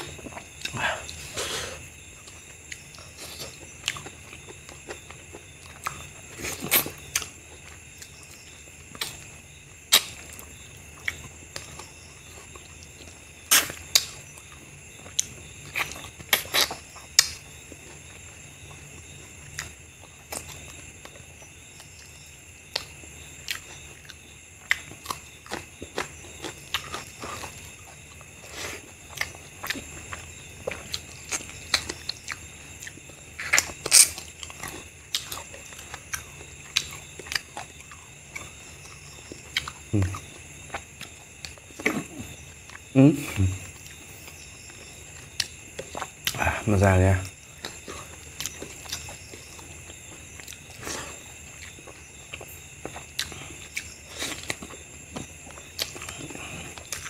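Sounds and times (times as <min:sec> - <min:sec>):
lip smacks and chewing: 0:00.0 - 0:42.9, 0:43.6 - 0:46.4, 0:47.3 - 0:57.0.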